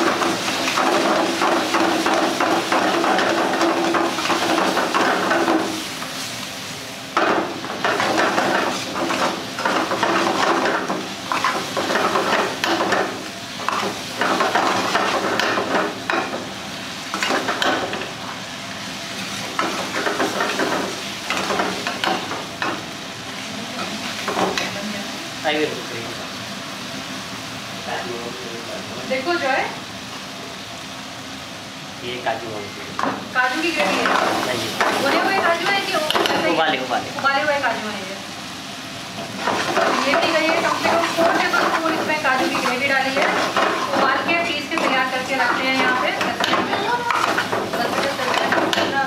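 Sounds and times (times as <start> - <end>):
masala sizzling: 0.0 - 49.0.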